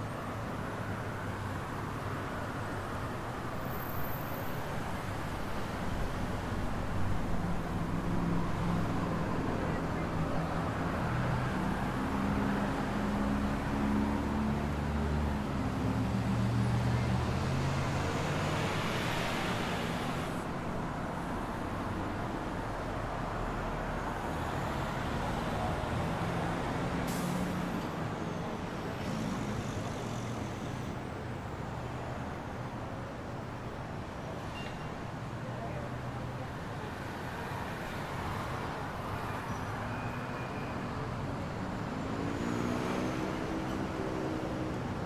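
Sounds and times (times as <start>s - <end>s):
rush of traffic: 0.0s - 45.0s.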